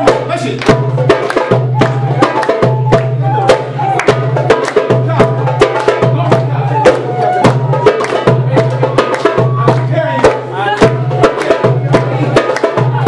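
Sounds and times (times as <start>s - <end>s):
folk dance music: 0.0s - 13.0s
steady drum beat: 0.0s - 13.0s.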